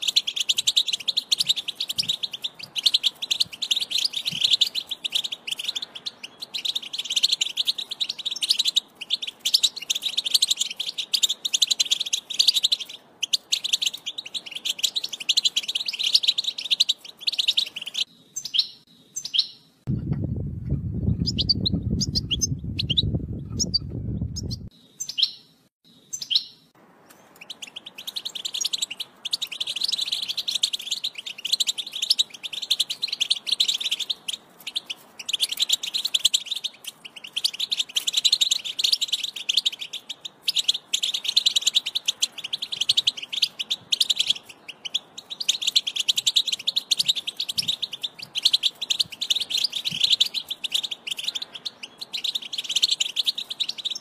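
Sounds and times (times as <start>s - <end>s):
goldfinch twittering song: 0.0s - 19.6s, 21.1s - 54.0s
bird chirps: 0.0s - 19.8s, 20.8s - 54.0s.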